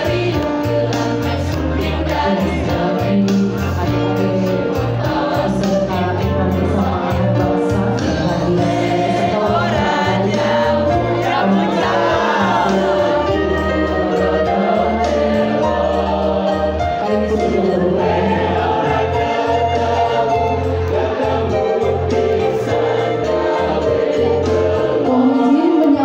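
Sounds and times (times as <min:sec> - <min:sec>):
children's choir singing: 0:00.0 - 0:26.0
keyboard bass notes: 0:00.0 - 0:26.0.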